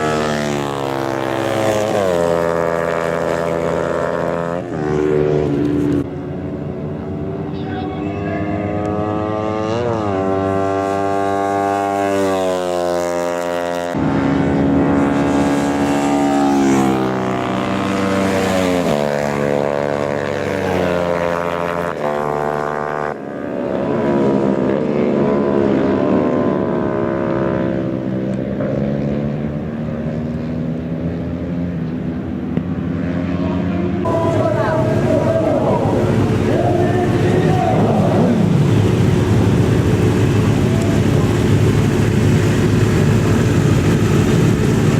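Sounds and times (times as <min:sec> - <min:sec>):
racing motorcycle engines revving: 0:00.0 - 0:44.9.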